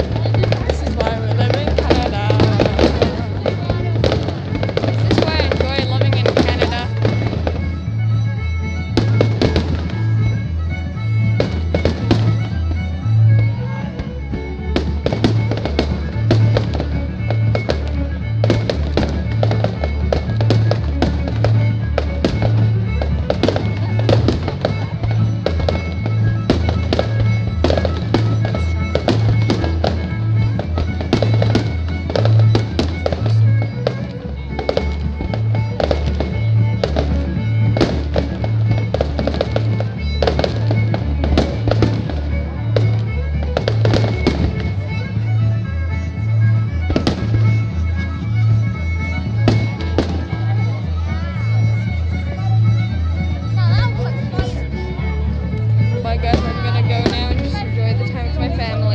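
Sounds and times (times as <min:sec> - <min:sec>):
fireworks popping and banging: 0:00.0 - 0:08.0, 0:08.9 - 0:10.4, 0:11.2 - 0:12.8, 0:14.8 - 0:45.2, 0:46.8 - 0:47.8, 0:49.2 - 0:50.8, 0:55.8 - 0:58.9.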